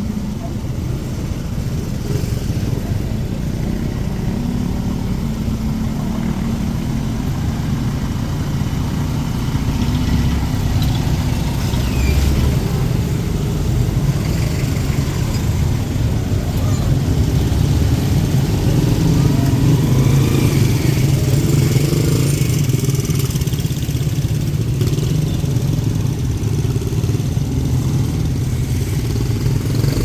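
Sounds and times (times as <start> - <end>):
vehicle engines rumbling: 0.0 - 30.0.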